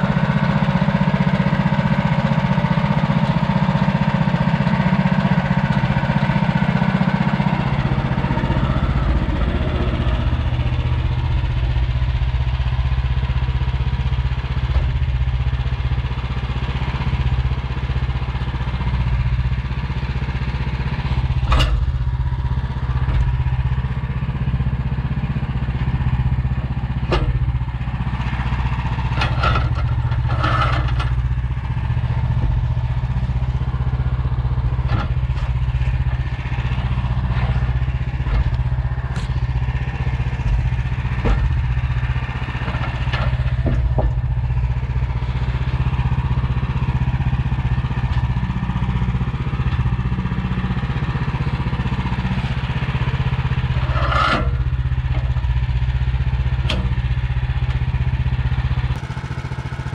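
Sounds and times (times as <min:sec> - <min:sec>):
gas engine running: 0:00.0 - 0:59.9.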